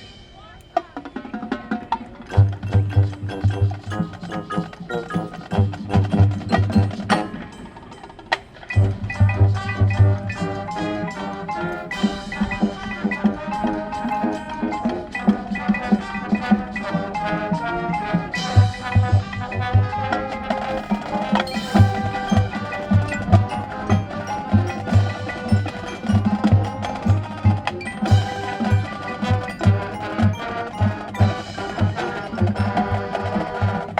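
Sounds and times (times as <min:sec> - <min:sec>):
drumline: 0:00.0 - 0:33.9
percussion ensemble: 0:00.0 - 0:33.9
wind and brass chords: 0:02.2 - 0:33.9.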